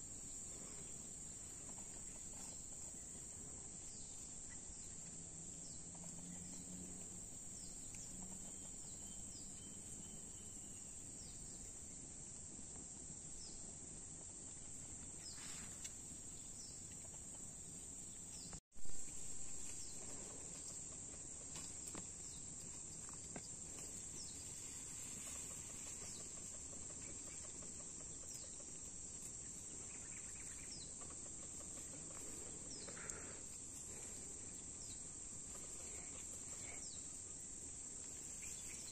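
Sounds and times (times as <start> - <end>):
faint chirps: 0.0 - 12.4, 14.5 - 38.9.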